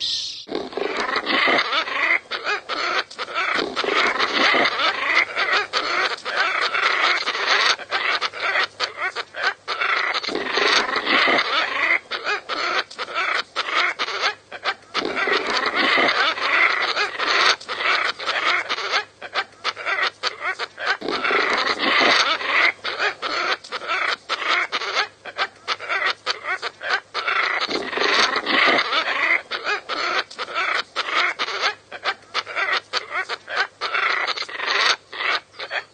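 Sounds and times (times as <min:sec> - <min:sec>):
birds calling: 0:00.0 - 0:35.9
faint low hum: 0:00.0 - 0:35.9.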